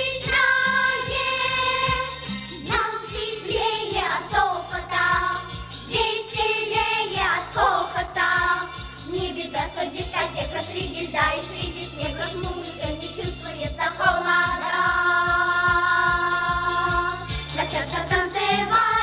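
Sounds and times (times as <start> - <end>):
instrumental accompaniment with beat: 0.0 - 19.0.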